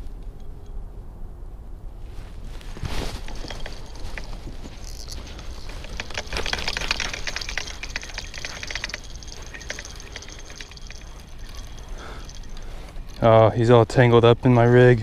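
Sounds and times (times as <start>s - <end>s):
fishing gear clicking and rattling: 2.6s - 15.0s.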